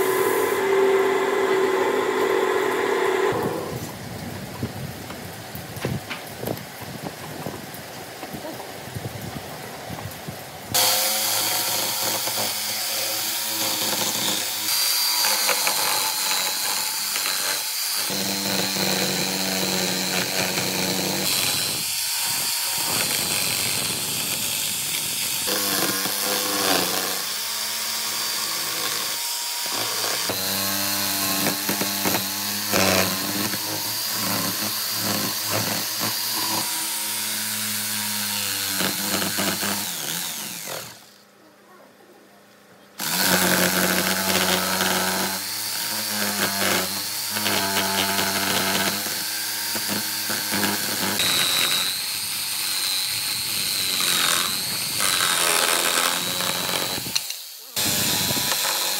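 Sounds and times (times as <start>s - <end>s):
power tools cutting wood: 0.0s - 4.3s, 10.7s - 41.2s, 43.0s - 58.9s.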